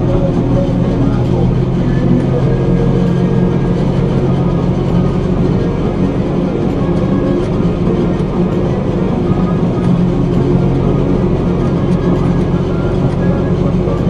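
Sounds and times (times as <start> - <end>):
heavy engine droning: 0.0 - 14.0.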